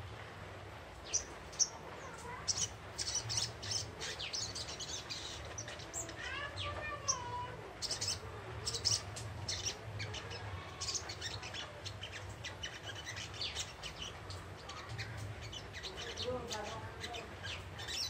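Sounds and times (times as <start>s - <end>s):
bird twittering high chirps: 1.0s - 18.0s.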